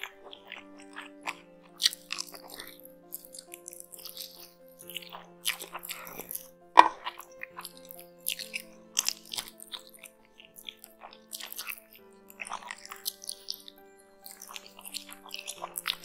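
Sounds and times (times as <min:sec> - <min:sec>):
person chewing food: 0:00.0 - 0:16.0
soft background music: 0:00.0 - 0:16.0.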